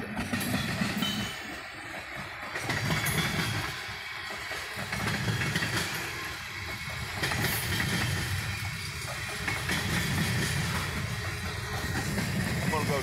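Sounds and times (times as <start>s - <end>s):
train wheels rumbling on rails: 0.0s - 13.0s
clicks and clacks: 0.1s - 13.0s.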